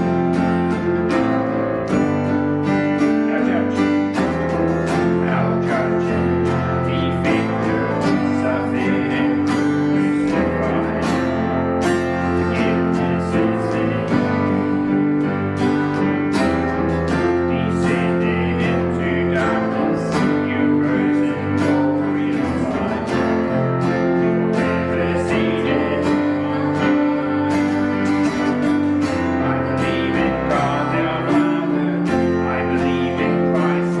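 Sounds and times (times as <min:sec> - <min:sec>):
strummed acoustic guitar: 0:00.0 - 0:34.0.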